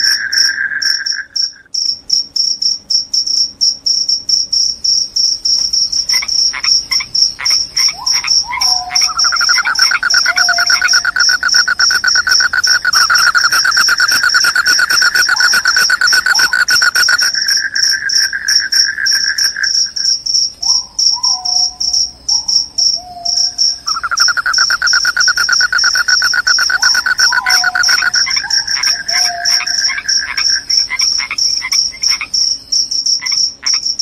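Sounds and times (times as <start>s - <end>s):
crickets chirping: 0.0s - 34.0s
lower cricket trill: 0.0s - 34.0s.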